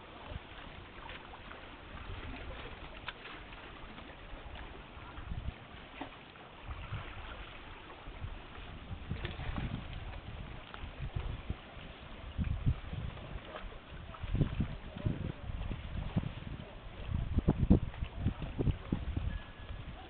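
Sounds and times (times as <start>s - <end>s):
wind rumbling on microphone: 0.0s - 6.0s, 6.6s - 20.0s
hiss of wind and water: 0.0s - 20.0s.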